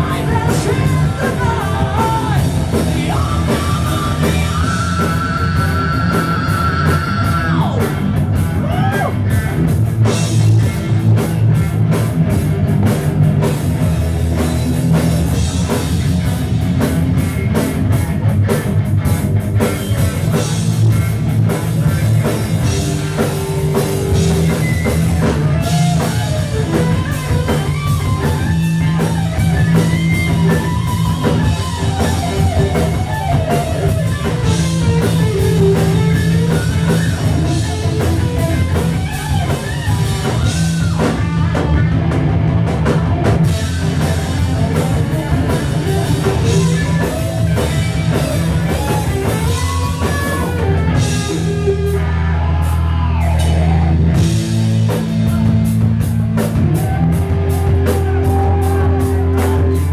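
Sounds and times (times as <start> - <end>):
distorted electric guitar lead: 0.0 - 59.9
heavy metal band playing live: 0.0 - 59.9.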